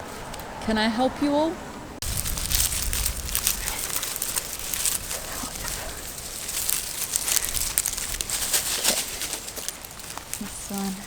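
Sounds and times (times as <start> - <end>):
chickens scratching in mulch: 2.0 - 11.0.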